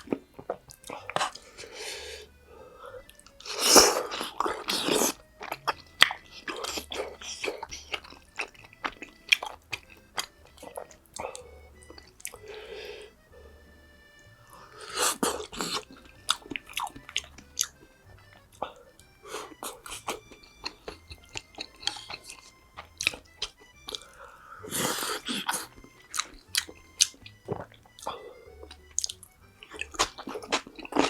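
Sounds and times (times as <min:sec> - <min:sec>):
background music: 0:00.0 - 0:31.0
person chewing food: 0:00.0 - 0:31.0.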